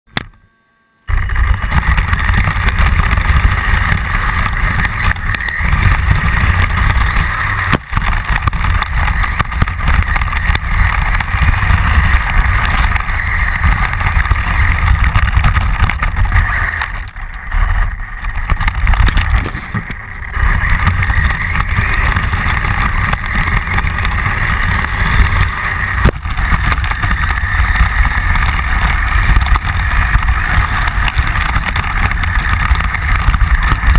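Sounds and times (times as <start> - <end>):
vehicle engine rumbling: 1.0 - 33.9.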